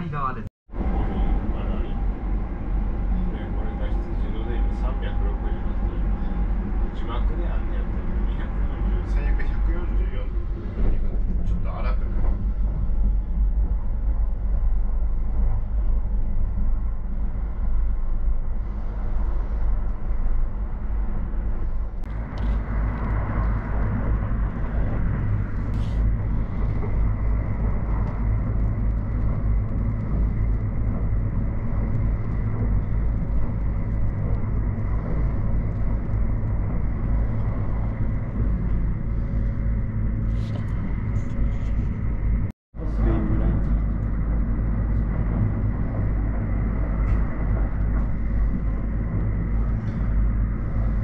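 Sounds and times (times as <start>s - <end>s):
train interior rumble: 0.0s - 51.0s.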